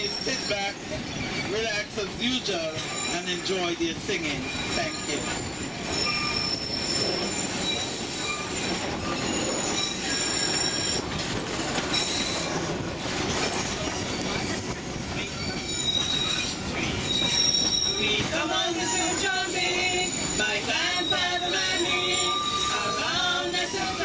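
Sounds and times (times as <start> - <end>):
high-pitched wheel squeals: 0.0 - 1.9, 2.6 - 3.5, 4.3 - 12.8, 13.7 - 24.0
train wheels rumbling: 0.0 - 24.0.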